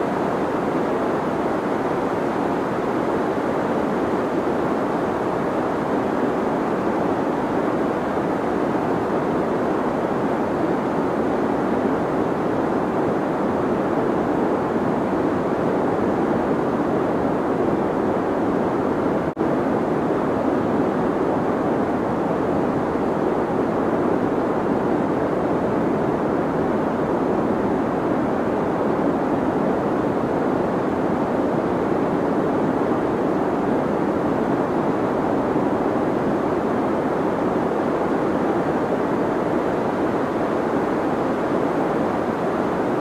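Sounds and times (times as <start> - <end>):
deep white noise hiss: 0.0 - 43.0.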